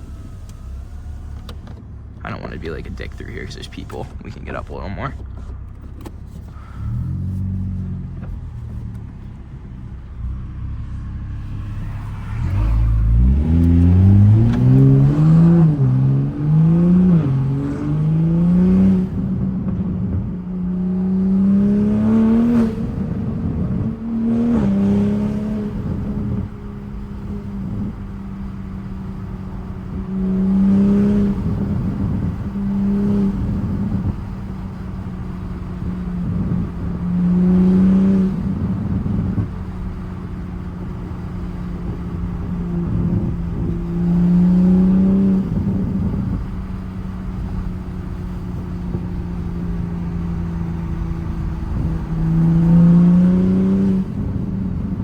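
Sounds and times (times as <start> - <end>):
car engine drone: 0.0 - 55.0
engine revving on throttle: 0.0 - 55.0.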